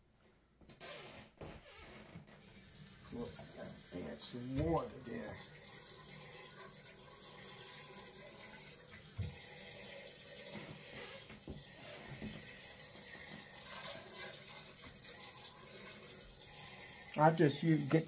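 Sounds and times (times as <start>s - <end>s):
faucet water running into pot: 2.5s - 18.0s.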